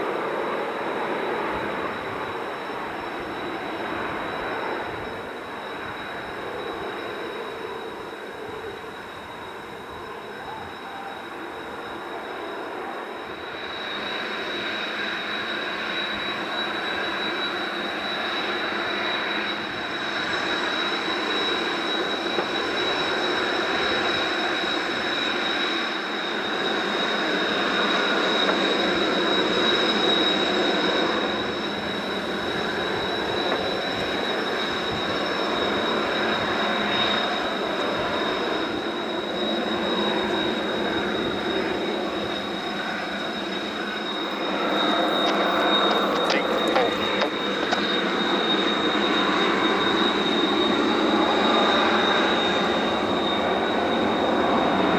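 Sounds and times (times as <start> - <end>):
jet engine whine: 0.0 - 54.9.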